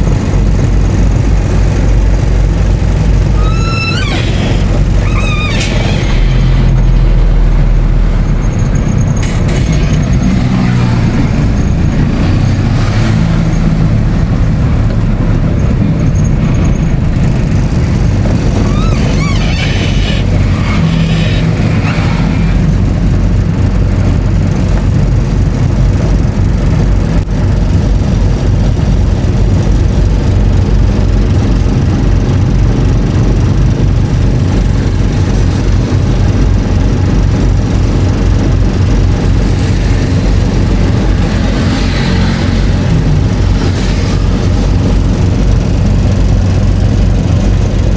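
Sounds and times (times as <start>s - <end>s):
vehicle engine and road noise: 0.0s - 47.9s.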